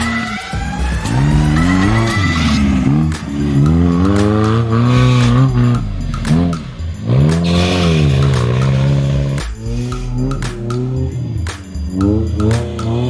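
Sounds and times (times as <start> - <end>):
buggy engine revving: 0.7 - 13.0.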